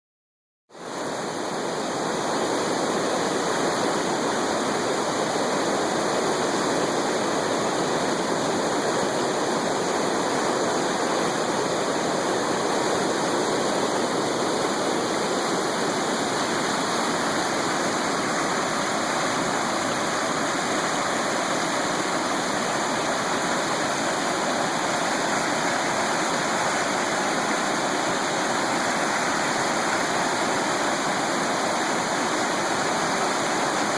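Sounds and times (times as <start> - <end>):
floodwater rushing: 0.8 - 33.9.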